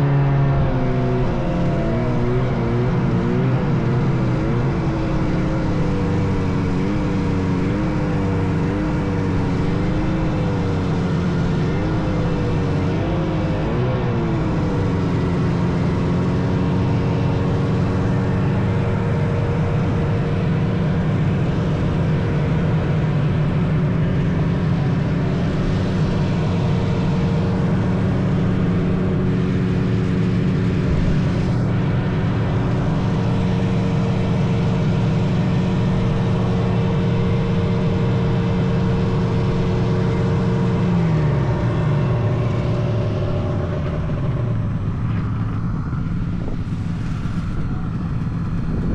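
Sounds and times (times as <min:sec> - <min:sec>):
snowmobile engine running: 0:00.0 - 0:48.9.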